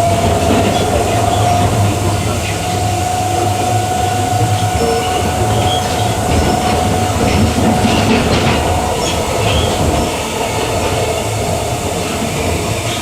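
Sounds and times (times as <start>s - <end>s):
train hum tone: 0.0s - 13.0s
train wheels rumbling on rail: 0.0s - 13.0s.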